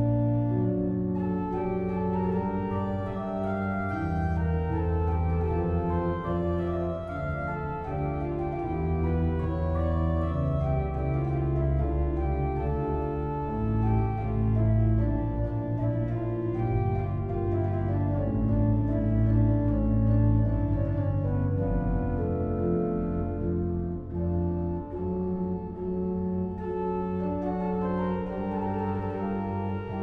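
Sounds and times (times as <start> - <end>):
deep organ pedal bass notes: 0.0 - 30.0
pipe organ chords: 0.0 - 30.0.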